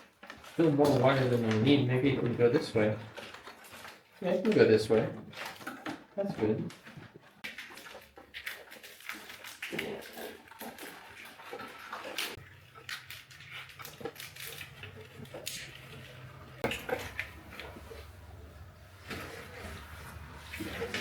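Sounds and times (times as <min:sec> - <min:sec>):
wires and plastic loom crackling: 0:00.0 - 0:21.0.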